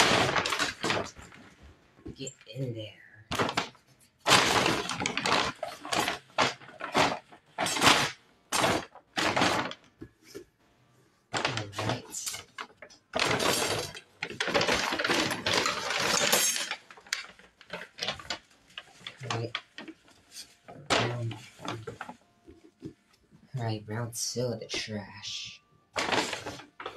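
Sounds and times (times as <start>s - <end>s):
paper bag crinkling: 0.0s - 1.9s, 2.6s - 10.4s, 11.3s - 23.0s, 25.9s - 26.9s.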